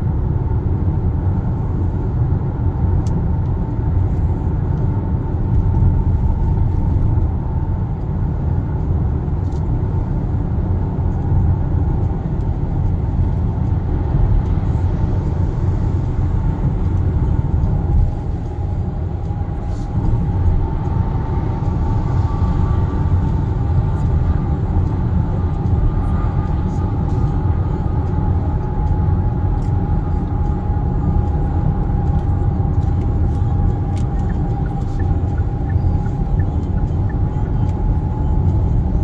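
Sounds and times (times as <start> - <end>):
car tyre and engine rumble: 0.0 - 39.0.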